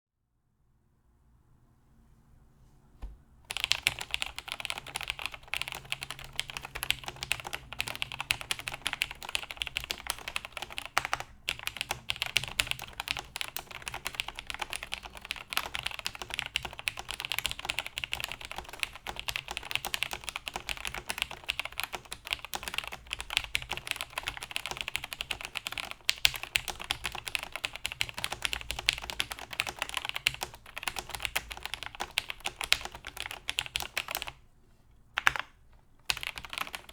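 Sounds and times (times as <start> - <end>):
rapid mechanical keyboard typing: 3.5 - 34.4, 35.2 - 36.9.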